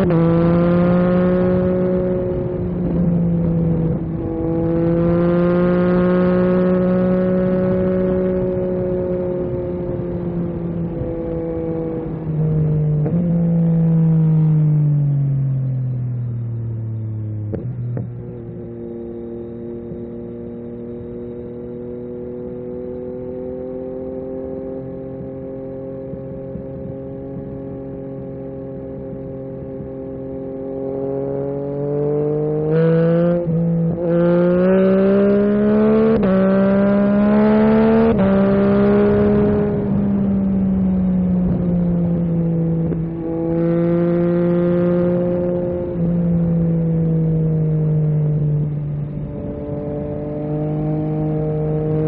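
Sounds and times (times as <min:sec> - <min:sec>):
motorcycle engine revving: 0:00.0 - 0:14.4, 0:17.3 - 0:52.0.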